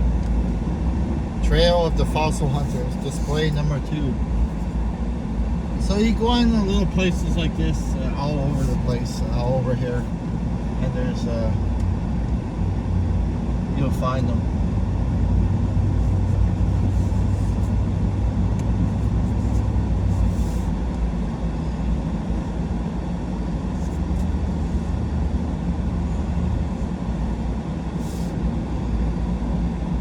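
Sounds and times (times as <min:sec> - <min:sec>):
road rumble: 0:00.0 - 0:30.0
truck engine hum: 0:00.0 - 0:30.0.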